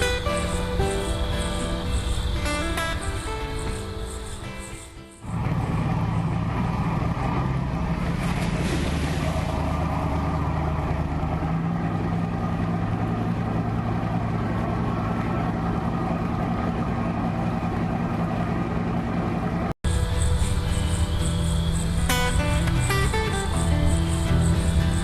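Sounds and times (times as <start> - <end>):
low engine hum: 0.0 - 4.5, 5.2 - 25.0.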